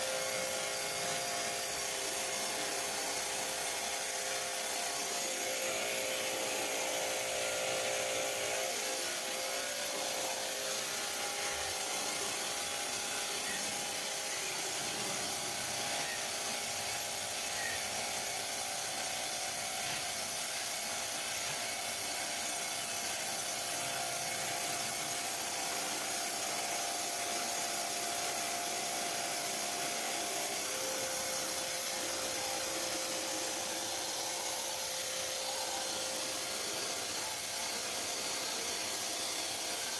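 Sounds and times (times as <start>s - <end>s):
pressure washer motor hum: 0.0s - 39.9s.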